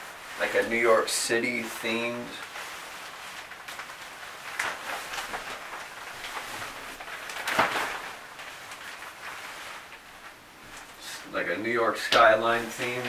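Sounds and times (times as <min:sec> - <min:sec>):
shower curtain fabric rustling: 0:00.0 - 0:13.0.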